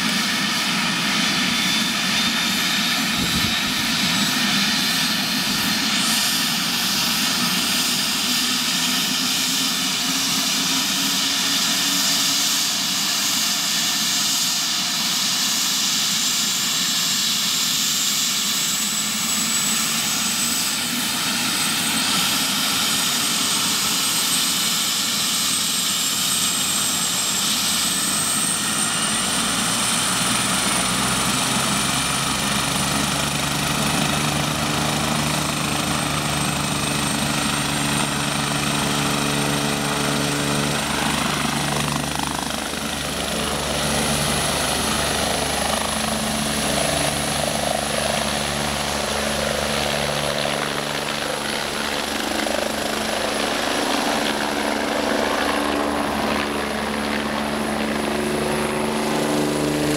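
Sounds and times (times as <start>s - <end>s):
helicopter rotor beating: 0.0s - 59.9s
helicopter turbine whine: 0.0s - 59.9s.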